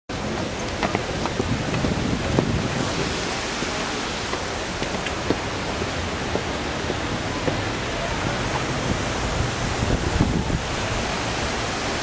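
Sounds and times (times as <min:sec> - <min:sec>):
fountain water rushing: 0:00.1 - 0:12.0.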